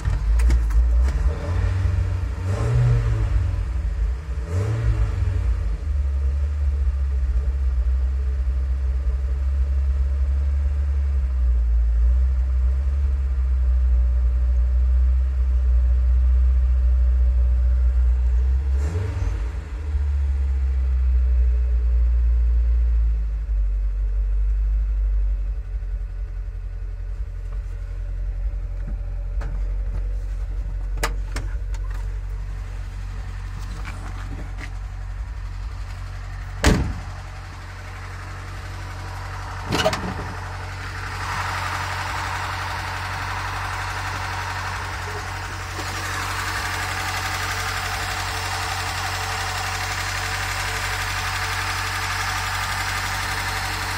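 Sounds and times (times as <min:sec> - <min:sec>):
engine running low rumble: 0:00.0 - 0:53.9.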